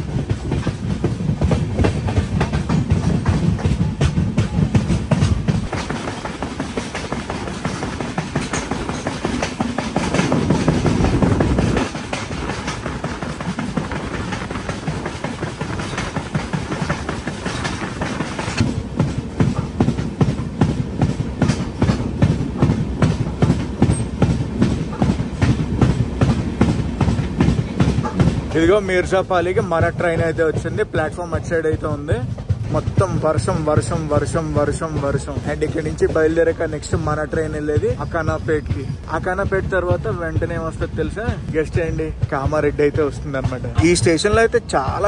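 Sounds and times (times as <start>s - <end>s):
train wheels clacking over rail joints: 0.0s - 45.0s.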